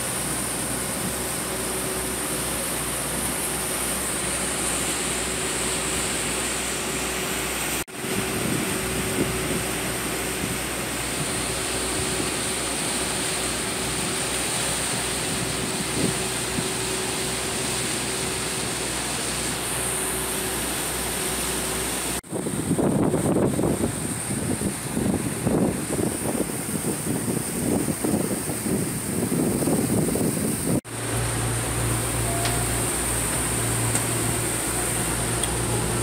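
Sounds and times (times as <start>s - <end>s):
boat engines droning: 0.0s - 36.0s
churning boat wake: 0.0s - 36.0s.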